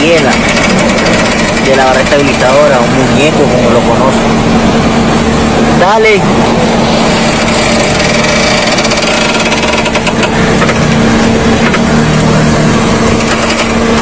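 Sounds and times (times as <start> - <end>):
engine hum: 0.0 - 14.0.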